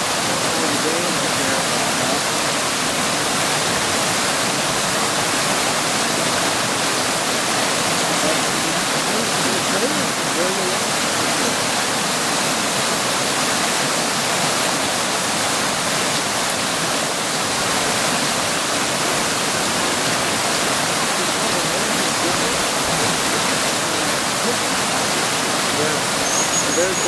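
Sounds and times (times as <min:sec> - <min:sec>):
fast-flowing creek water: 0:00.0 - 0:27.0.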